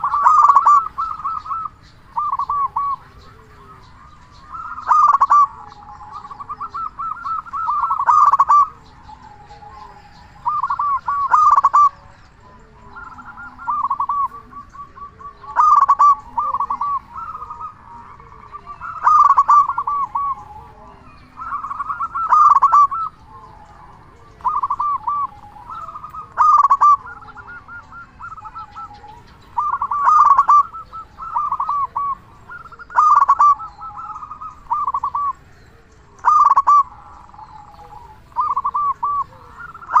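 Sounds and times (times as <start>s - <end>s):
dove cooing: 0.0s - 40.0s.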